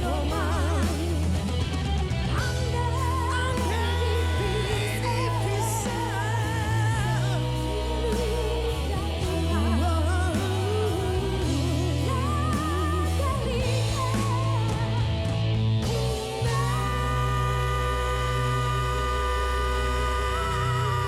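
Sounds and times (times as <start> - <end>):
live band playing: 0.0 - 21.0
wordless singing: 0.0 - 21.0.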